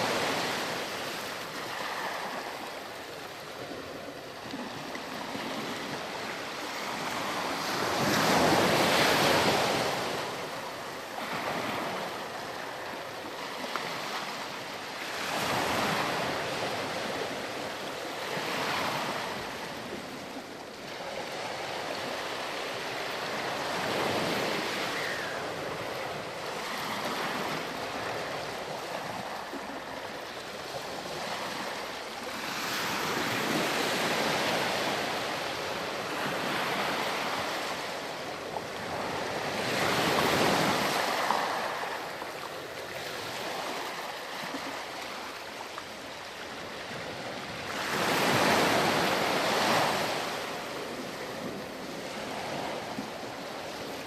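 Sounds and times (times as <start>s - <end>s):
ocean waves breaking on sand: 0.0s - 54.0s.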